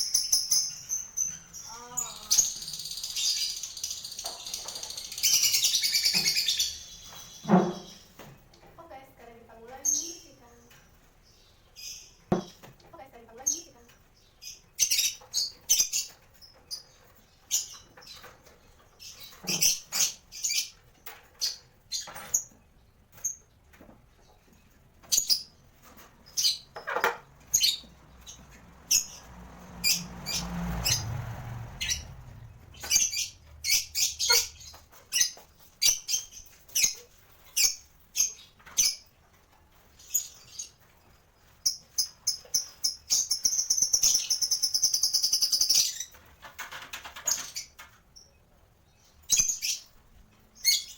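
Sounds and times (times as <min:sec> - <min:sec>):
lovebirds chirping: 0:00.0 - 0:08.4, 0:09.5 - 0:50.9.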